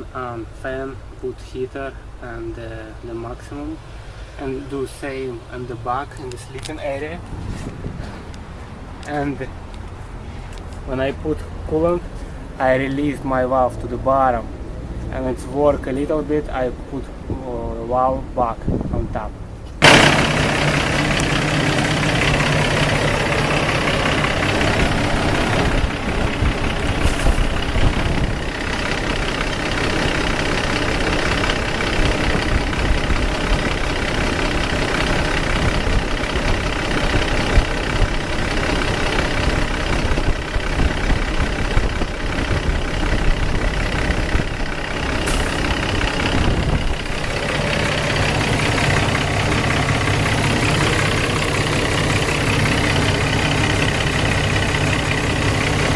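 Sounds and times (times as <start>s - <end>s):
diesel engine idling: 0.0s - 17.2s, 19.8s - 55.9s.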